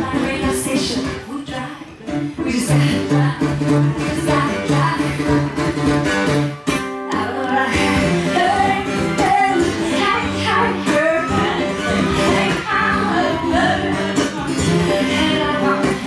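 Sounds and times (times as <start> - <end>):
woman singing: 0.0 - 5.8, 7.1 - 16.0
acoustic guitar picking: 0.0 - 16.0.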